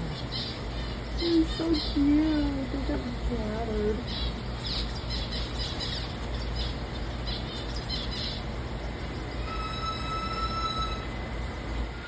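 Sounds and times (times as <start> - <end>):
birds squawking chirps: 0.0 - 2.6, 3.8 - 12.0
steady high whine: 0.0 - 12.0
steady low hum: 0.0 - 12.0.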